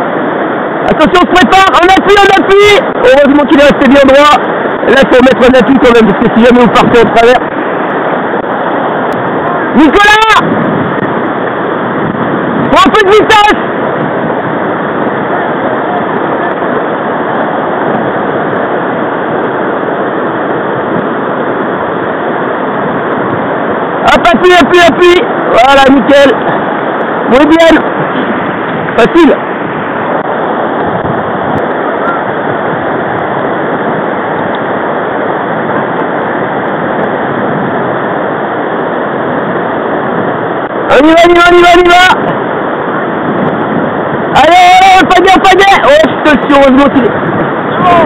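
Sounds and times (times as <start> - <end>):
river water rushing through weir: 0.0 - 48.0
whitewater churning: 0.0 - 48.0.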